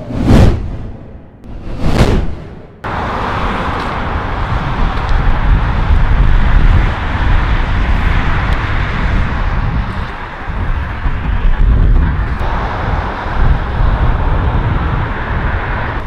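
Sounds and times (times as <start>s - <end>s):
cars passing: 0.0s - 16.0s
wind buffeting microphone: 1.5s - 16.0s.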